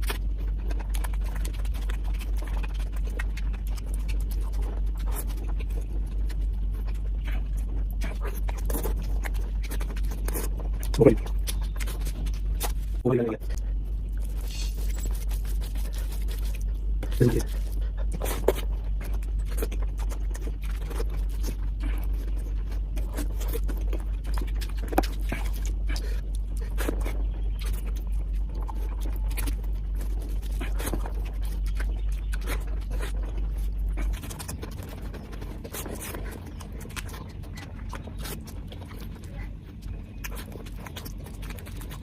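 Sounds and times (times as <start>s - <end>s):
low hum: 0.0s - 42.0s
wet chewing: 0.0s - 42.0s.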